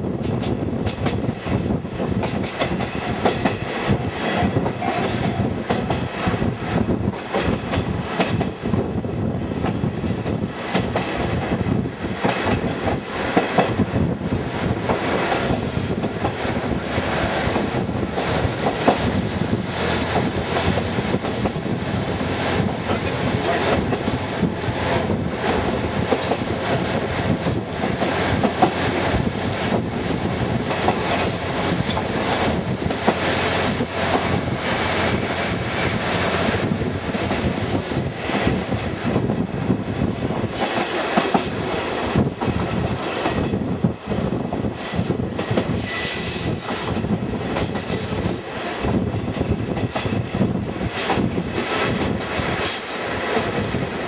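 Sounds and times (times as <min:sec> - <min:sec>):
wheel and rail rushing noise: 0:00.0 - 0:54.0.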